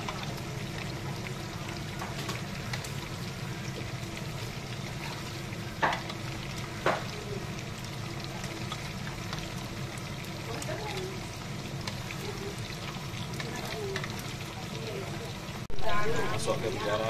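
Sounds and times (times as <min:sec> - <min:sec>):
prawns sizzling in a wok: 0:00.0 - 0:17.0.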